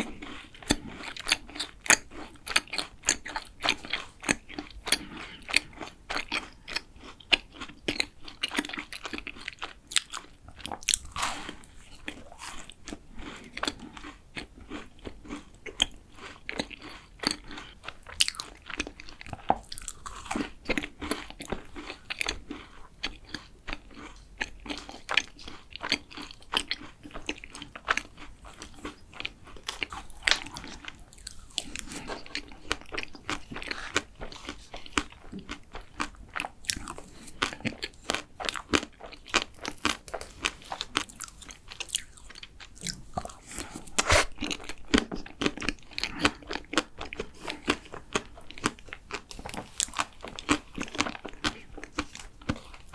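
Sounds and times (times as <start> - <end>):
close biting and chewing: 0.0 - 52.9.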